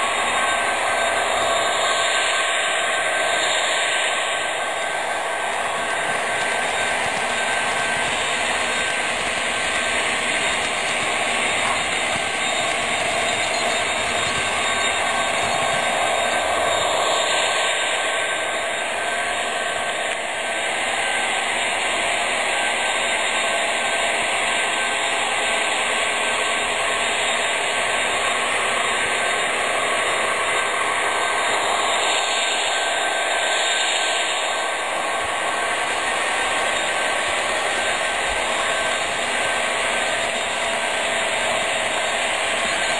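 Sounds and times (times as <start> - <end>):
model train running on track: 0.0 - 42.9.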